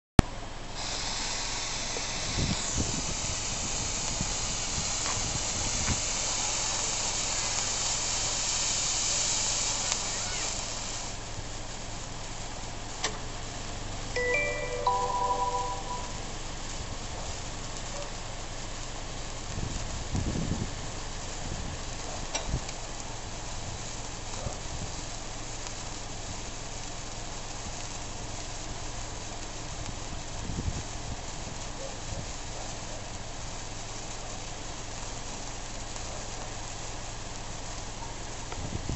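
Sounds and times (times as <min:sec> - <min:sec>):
firework sparkler hissing: 0:00.4 - 0:38.9.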